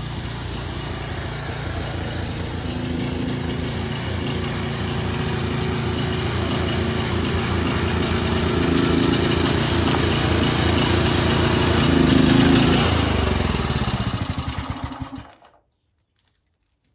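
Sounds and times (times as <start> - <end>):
engine shutting off with thuds: 0.0 - 15.6
small single-cylinder engine running: 0.0 - 15.6.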